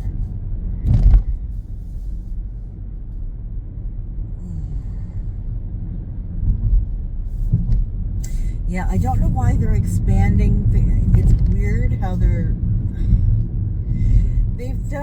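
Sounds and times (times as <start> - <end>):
road and engine rumble in car cabin: 0.0 - 15.0.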